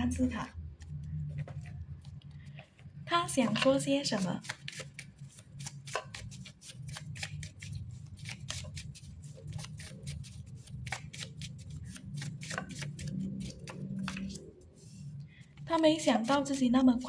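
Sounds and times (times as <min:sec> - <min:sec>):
cards being shuffled: 0:00.8 - 0:14.9, 0:15.6 - 0:16.6.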